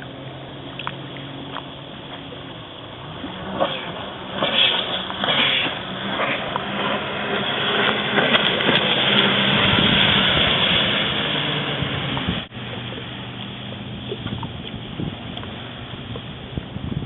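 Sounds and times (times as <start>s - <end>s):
jet ski engine humming: 0.0s - 17.0s
water rushing: 0.0s - 17.0s
wind: 0.0s - 17.0s.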